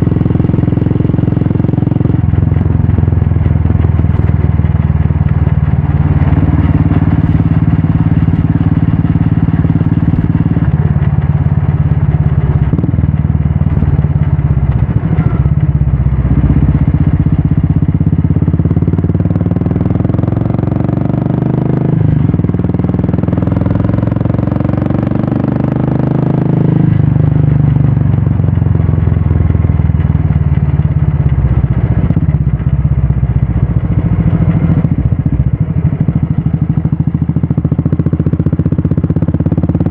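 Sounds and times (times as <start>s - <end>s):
single-cylinder motorcycle engine: 0.0s - 39.9s.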